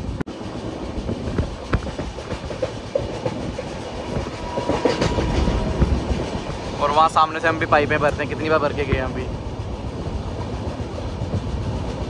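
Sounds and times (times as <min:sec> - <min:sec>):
train coaches rumbling: 0:00.0 - 0:12.0
wheels clicking over rail joints: 0:00.5 - 0:12.0.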